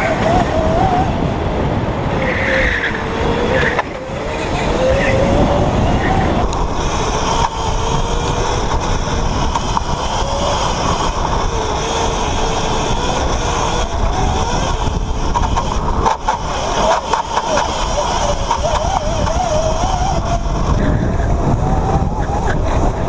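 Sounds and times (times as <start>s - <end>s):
electric kart motor whine: 0.0s - 23.0s
wind noise on microphone: 0.0s - 23.0s.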